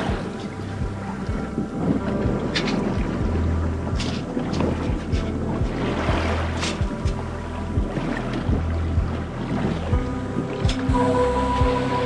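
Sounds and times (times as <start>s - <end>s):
music with low beat and chords: 0.0s - 12.0s.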